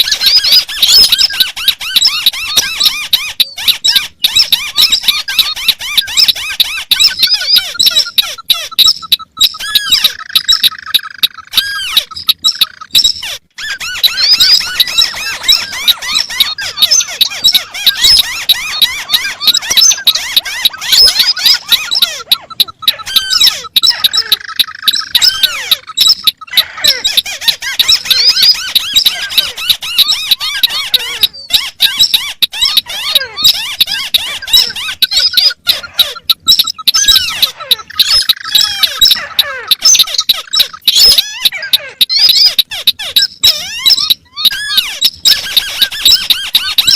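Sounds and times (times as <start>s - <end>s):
birds chattering squeaky notes: 0.0s - 46.9s.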